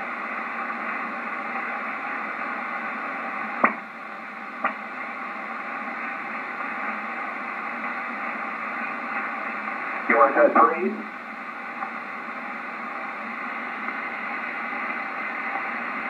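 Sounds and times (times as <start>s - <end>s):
radio band noise hiss: 0.0s - 16.0s.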